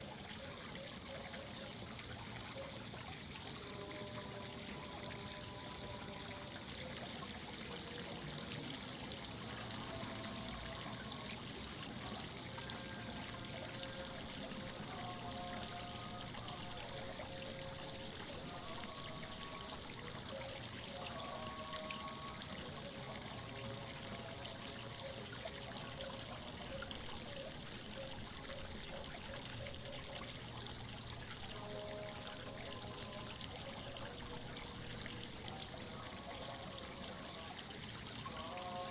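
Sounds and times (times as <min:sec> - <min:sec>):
trickling water: 0:00.0 - 0:38.9.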